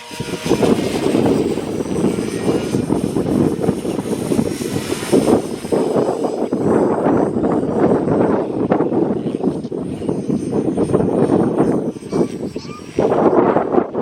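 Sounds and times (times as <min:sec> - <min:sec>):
rc helicopter motor whine: 0:00.0 - 0:14.0
wind buffeting microphone: 0:00.0 - 0:14.0.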